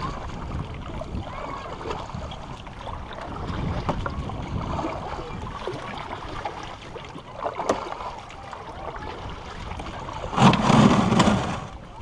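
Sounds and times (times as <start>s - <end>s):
paddle splashing in water: 0.0s - 12.0s.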